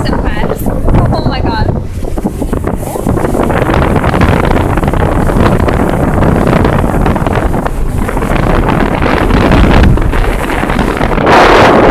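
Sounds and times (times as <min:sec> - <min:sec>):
motorboat running: 0:00.0 - 0:11.9
water rushing: 0:00.0 - 0:11.9
wind buffeting microphone: 0:00.0 - 0:11.9.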